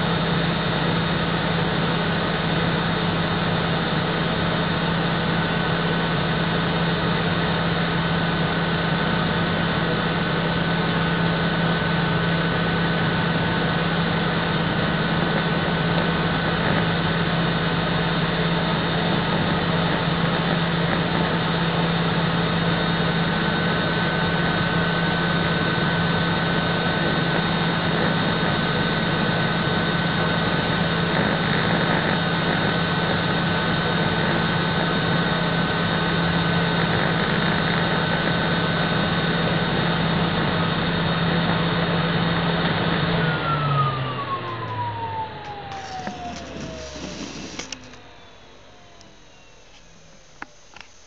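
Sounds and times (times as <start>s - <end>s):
vacuum cleaner motor running: 0.0s - 51.0s.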